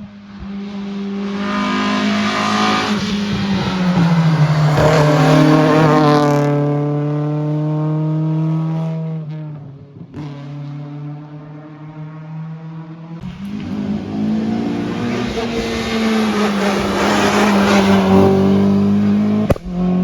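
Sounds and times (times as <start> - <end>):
rally car engine: 0.0 - 20.0.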